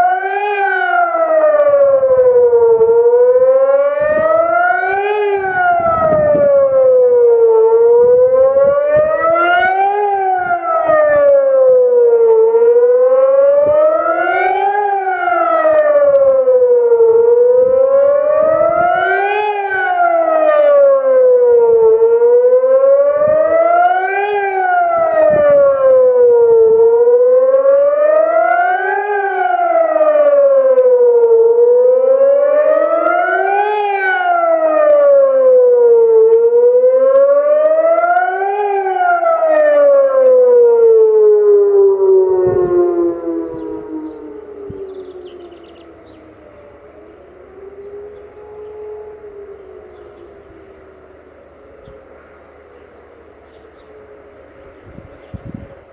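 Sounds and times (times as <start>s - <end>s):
electronic siren wailing: 0.0s - 55.9s.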